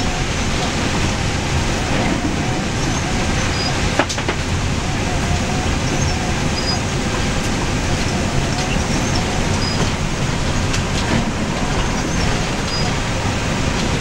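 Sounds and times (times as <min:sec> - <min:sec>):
vehicle rumbling on gravel: 0:00.0 - 0:14.0.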